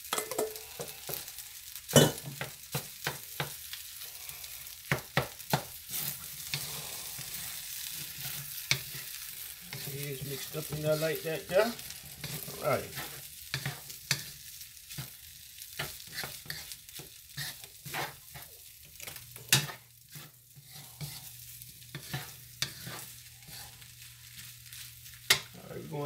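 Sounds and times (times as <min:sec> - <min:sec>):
frying sizzle: 0:00.0 - 0:26.0
spatula scraping a wok: 0:02.4 - 0:25.5.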